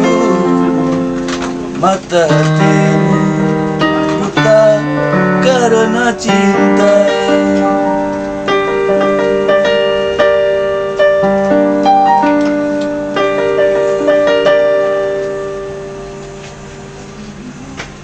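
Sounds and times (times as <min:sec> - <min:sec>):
electronic keyboard piano chords: 0:00.0 - 0:18.0.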